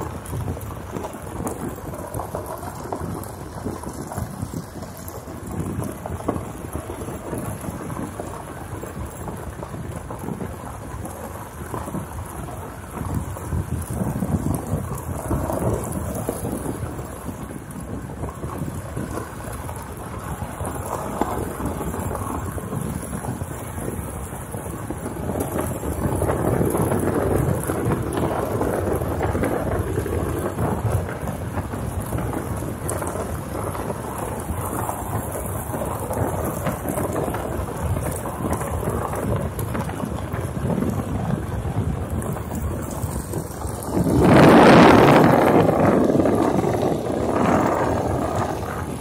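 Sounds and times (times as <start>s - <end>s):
vehicle rolling on dirt road: 0.0s - 49.0s.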